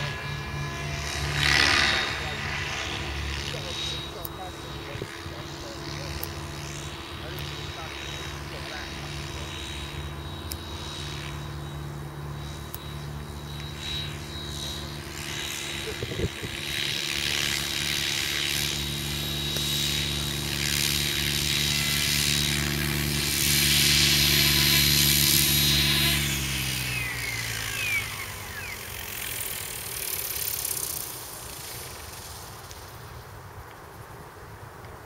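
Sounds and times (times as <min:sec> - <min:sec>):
electric helicopter rotor whine: 0:00.0 - 0:35.0.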